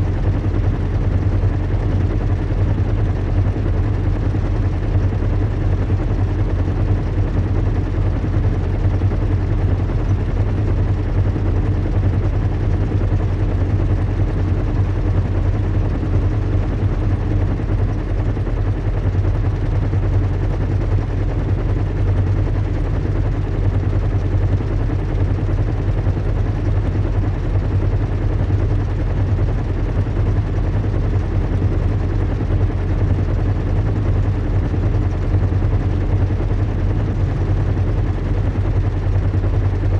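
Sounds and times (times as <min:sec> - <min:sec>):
airship engines and propellers humming: 0:00.0 - 0:39.9.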